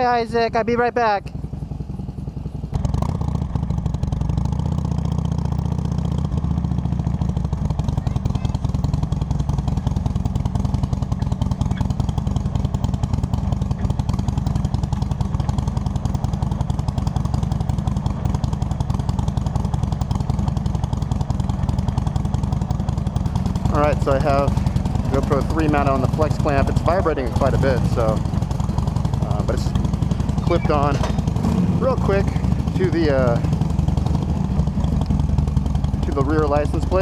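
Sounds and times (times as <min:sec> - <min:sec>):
motorcycle engine idling: 0:00.0 - 0:37.0
license plate vibrating: 0:06.9 - 0:37.0.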